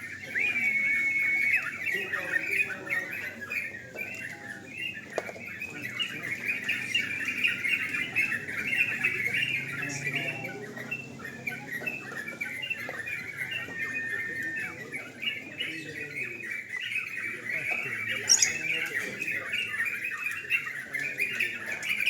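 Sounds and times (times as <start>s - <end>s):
birds singing and chattering: 0.0s - 22.0s.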